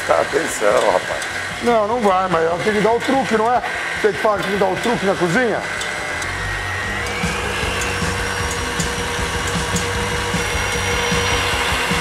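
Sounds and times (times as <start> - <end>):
stand mixer whisk beating: 0.0 - 12.0.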